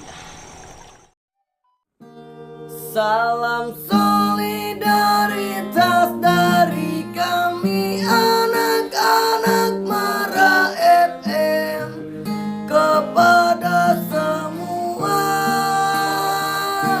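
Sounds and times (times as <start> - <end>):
strummed acoustic guitar: 2.0 - 17.0.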